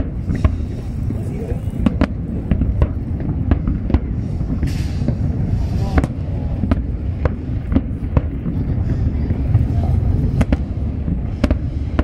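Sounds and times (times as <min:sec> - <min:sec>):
firework shell bursts: 0:00.0 - 0:12.0
fireworks hissing and crackling: 0:00.0 - 0:12.0
low rumble of explosions: 0:00.0 - 0:12.0.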